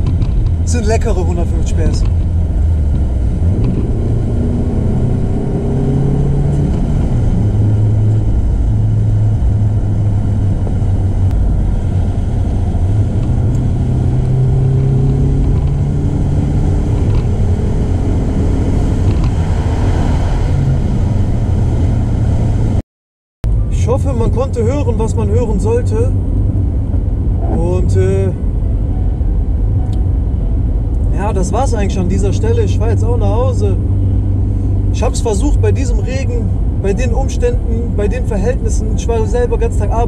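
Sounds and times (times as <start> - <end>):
car engine droning: 0.0 - 22.8, 23.4 - 40.0.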